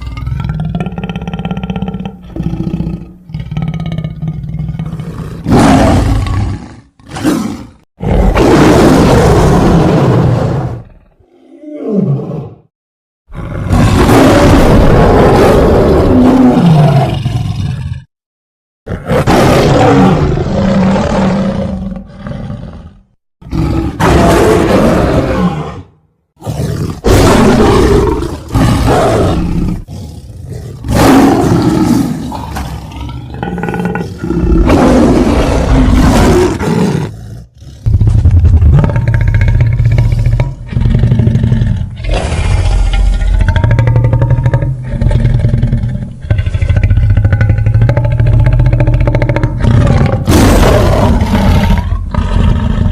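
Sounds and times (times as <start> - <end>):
big cat roars and snarls: 0.0 - 12.7, 13.3 - 18.1, 18.9 - 52.9
wavering growling roar: 0.0 - 12.7, 13.3 - 18.1, 18.9 - 52.9.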